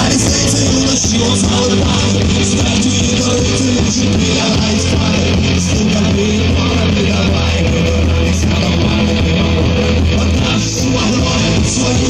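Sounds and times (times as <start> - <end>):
electric guitars: 0.0 - 12.0
low bass line: 0.0 - 12.0
rock band playing live: 0.0 - 12.0.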